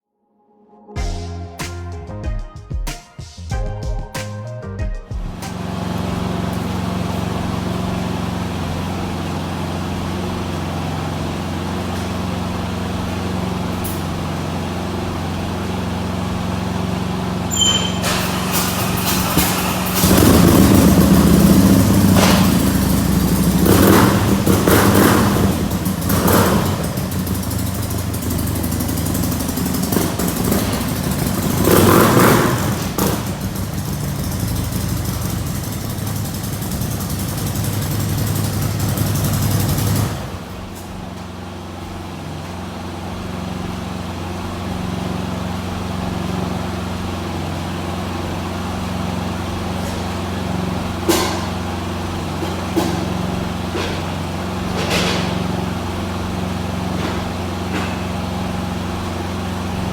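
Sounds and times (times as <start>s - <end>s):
motorcycle engine idling: 5.2s - 59.9s.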